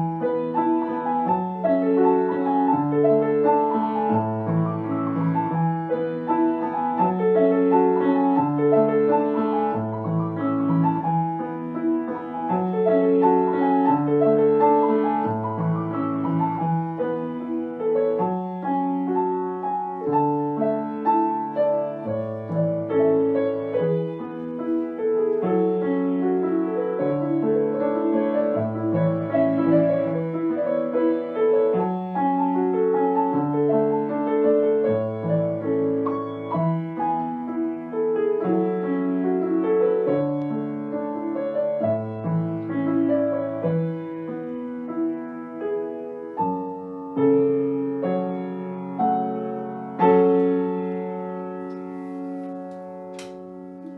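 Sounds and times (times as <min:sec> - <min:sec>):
grand piano playing: 0:00.0 - 0:53.9.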